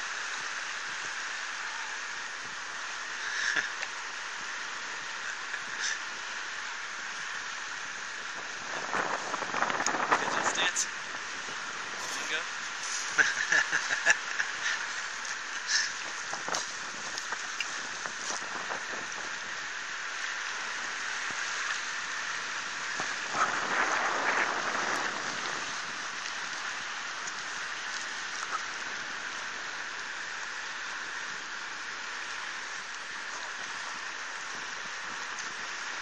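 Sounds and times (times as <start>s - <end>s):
river running over rocks: 0.0s - 36.0s.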